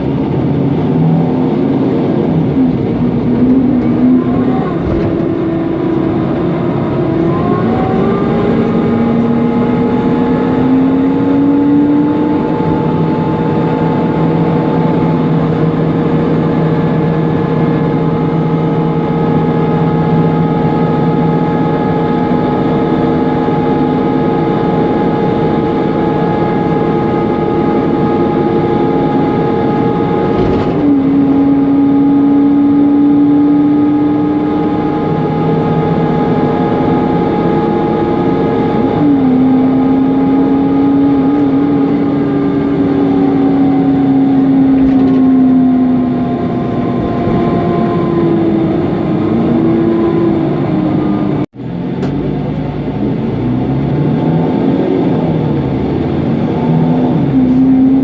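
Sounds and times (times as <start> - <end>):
bus engine whining: 0.0 - 58.0.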